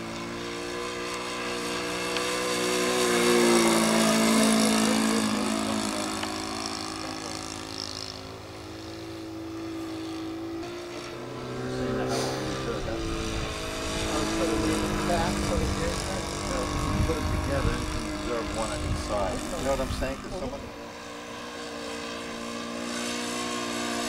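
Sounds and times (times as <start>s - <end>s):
model aeroplane engine flying past: 0.0s - 24.0s.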